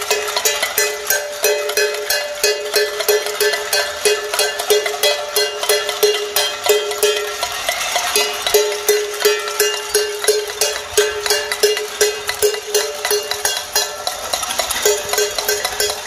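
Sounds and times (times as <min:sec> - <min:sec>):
pot ringing when struck: 0:00.0 - 0:16.0
pots beaten with spoons: 0:00.0 - 0:16.0.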